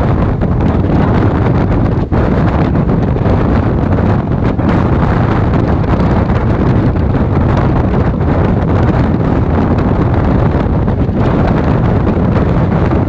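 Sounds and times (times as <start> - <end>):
train rumble: 0.0 - 13.0
wind buffeting microphone: 0.0 - 13.0.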